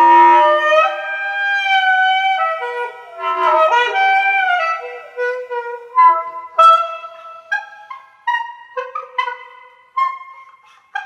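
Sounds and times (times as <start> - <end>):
wind instrument melody: 0.0 - 11.0.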